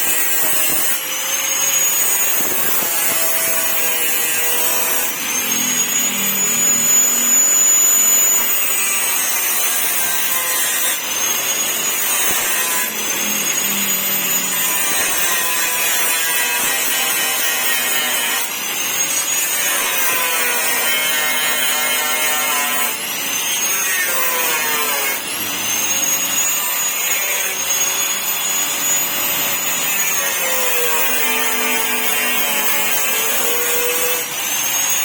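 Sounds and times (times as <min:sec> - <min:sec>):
power tool whining on metal: 0:00.0 - 0:35.0.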